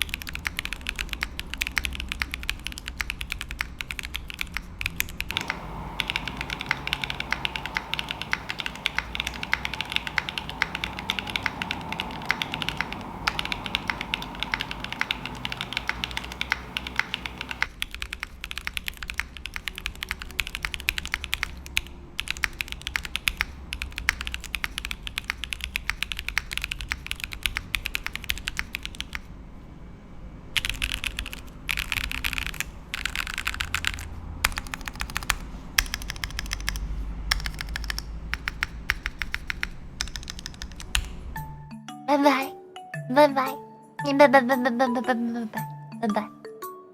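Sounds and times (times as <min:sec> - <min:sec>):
mechanical keyboard typing: 0:00.0 - 0:29.3, 0:30.6 - 0:41.4.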